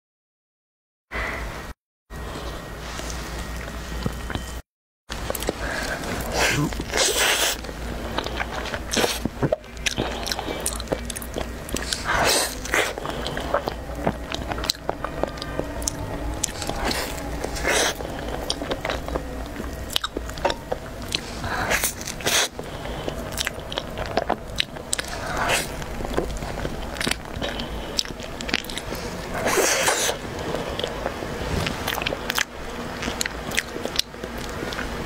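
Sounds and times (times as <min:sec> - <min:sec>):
chewing soft bread: 0:02.3 - 0:35.0.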